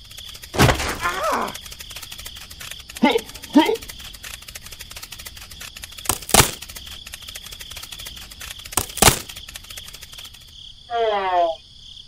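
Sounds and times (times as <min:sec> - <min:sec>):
fast ticking: 0:00.0 - 0:10.6.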